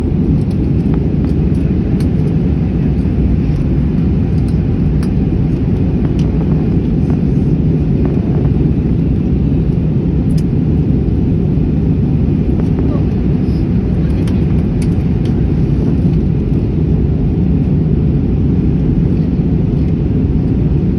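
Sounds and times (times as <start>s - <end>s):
airliner engines rumbling: 0.0s - 20.9s.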